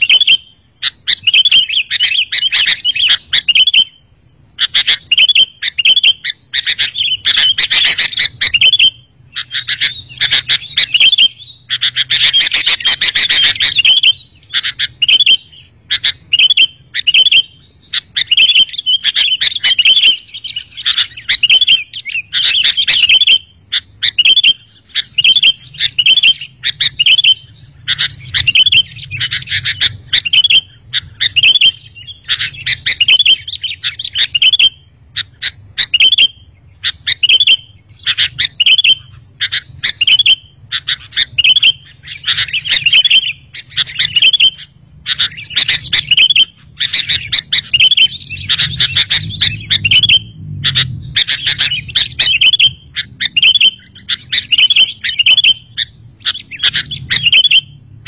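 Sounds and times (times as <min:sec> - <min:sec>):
bulbul chirping: 0:00.0 - 0:57.8.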